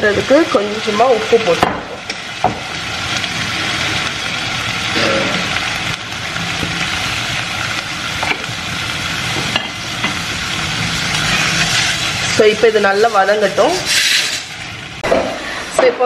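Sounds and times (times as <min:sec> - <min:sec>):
vegetables sizzling in pot: 0:00.0 - 0:16.0.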